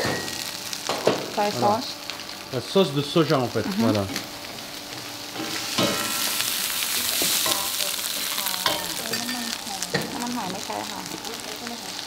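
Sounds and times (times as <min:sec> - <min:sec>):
rice sizzling in a wok: 0:00.0 - 0:12.0.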